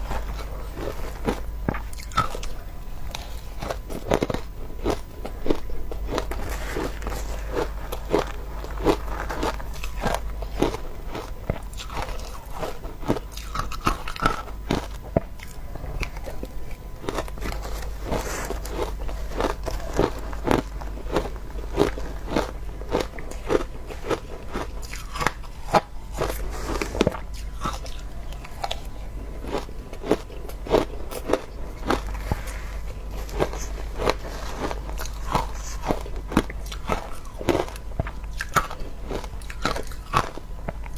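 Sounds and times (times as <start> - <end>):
low steady hum: 0.0 - 40.9
person chewing crunchy ice: 0.0 - 40.9.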